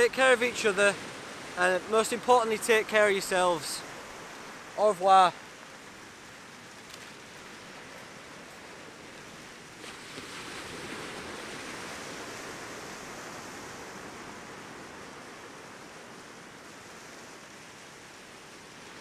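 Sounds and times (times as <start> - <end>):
sea surf washing on shore: 0.0 - 19.0.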